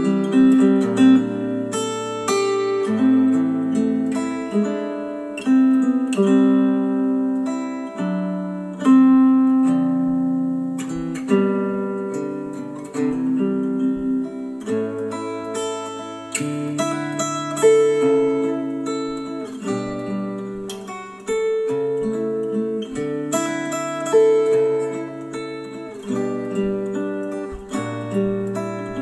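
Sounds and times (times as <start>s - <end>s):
acoustic guitar through speakers: 0.0s - 29.0s.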